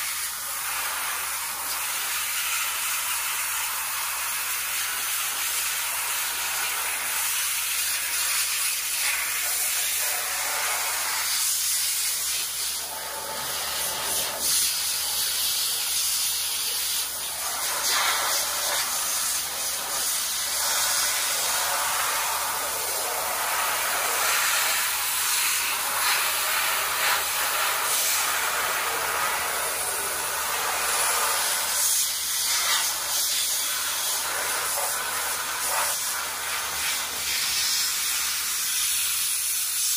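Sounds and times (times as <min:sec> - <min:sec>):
compressed air blaster hissing: 0:06.4 - 0:39.9.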